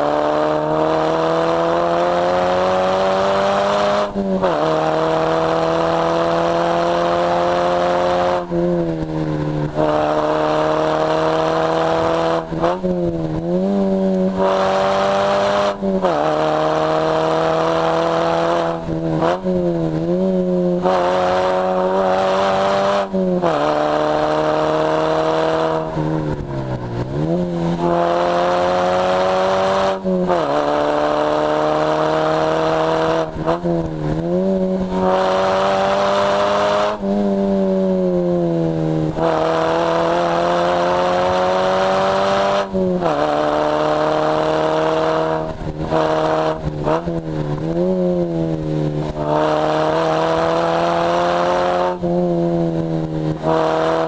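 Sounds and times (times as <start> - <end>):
car engine under load: 0.0 - 54.0.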